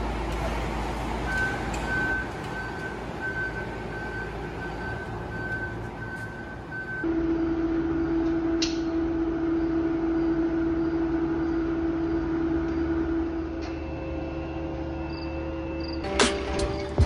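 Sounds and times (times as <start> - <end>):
refrigeration machinery hum: 0.0 - 17.0.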